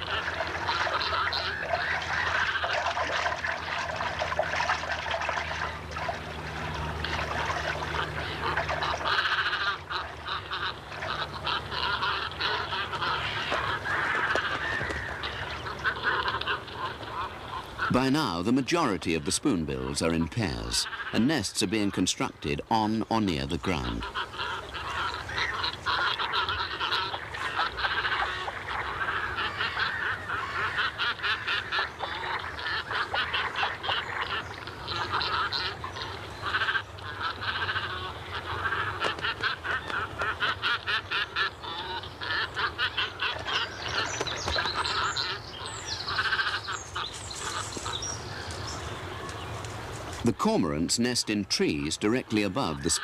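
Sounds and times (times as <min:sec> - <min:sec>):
colony of birds calling: 0:00.0 - 0:53.0.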